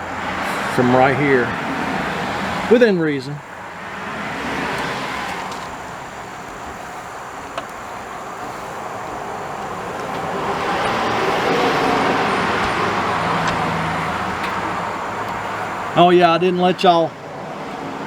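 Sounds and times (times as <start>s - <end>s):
highway traffic rush: 0.0s - 18.0s.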